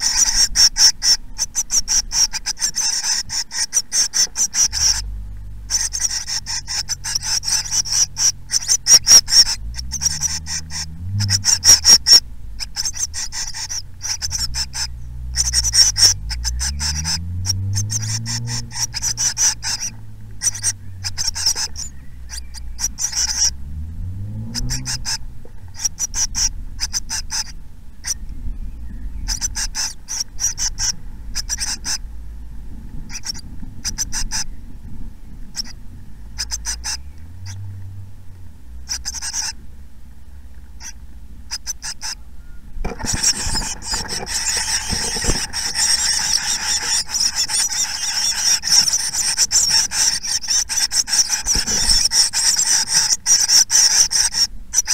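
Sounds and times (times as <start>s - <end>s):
nestlings hissing begging chorus: 0.0s - 23.6s, 24.4s - 28.2s, 29.1s - 32.1s, 33.0s - 34.6s, 35.5s - 37.6s, 38.8s - 39.6s, 40.8s - 42.2s, 42.9s - 54.9s
nestlings high-pitched calls: 0.0s - 32.3s, 32.9s - 39.6s, 40.6s - 54.9s.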